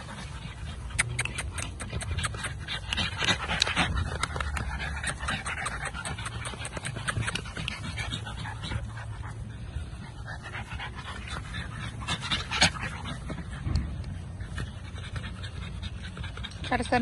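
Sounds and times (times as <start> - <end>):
puppy panting: 0.0 - 17.0.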